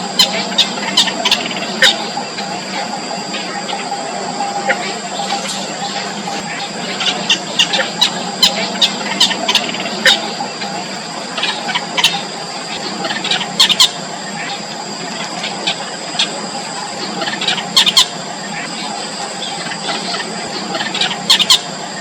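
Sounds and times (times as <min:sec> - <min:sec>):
nestlings begging squeaks: 0:00.0 - 0:21.9
steady high-pitched tone: 0:00.0 - 0:22.0.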